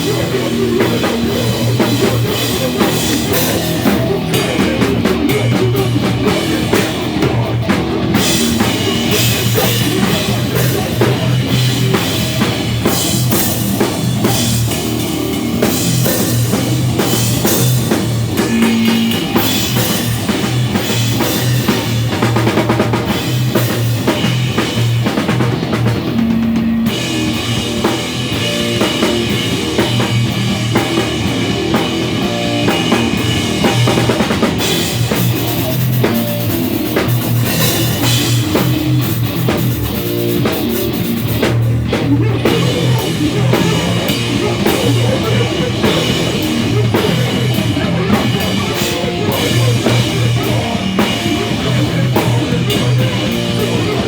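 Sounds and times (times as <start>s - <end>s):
bass drum steady beat: 0.0s - 54.0s
electric guitars: 0.0s - 54.0s
live rock band playing: 0.0s - 54.0s.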